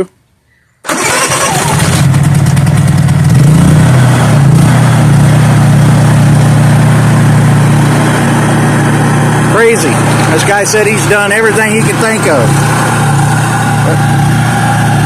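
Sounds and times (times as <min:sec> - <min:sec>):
generator engine running: 0:00.9 - 0:15.0.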